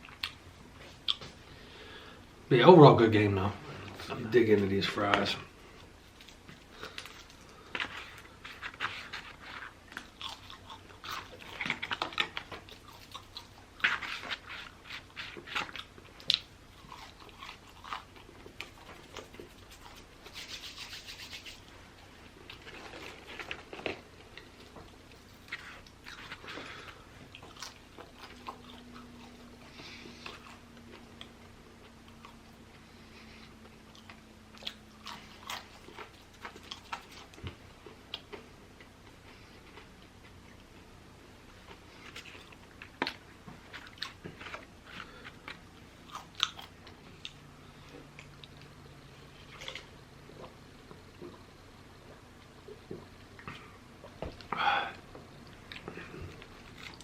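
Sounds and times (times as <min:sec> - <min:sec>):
chewing crunchy fries: 0:05.8 - 0:57.0.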